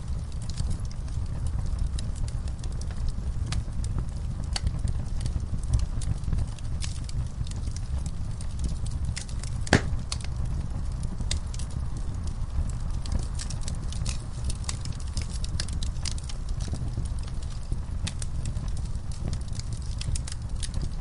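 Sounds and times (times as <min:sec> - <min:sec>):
low rumble of fire: 0:00.0 - 0:21.0
wood fire crackling: 0:00.0 - 0:21.0.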